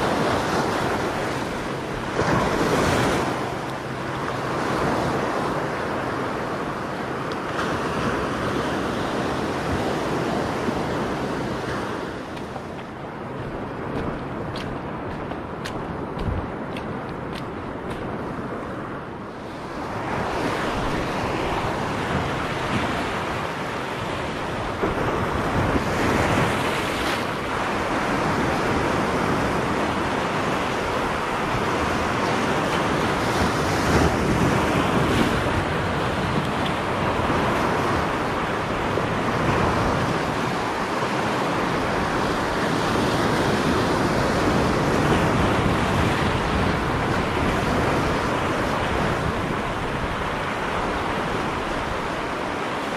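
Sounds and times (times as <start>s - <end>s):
sea surf breaking over rocks: 0.0s - 52.9s.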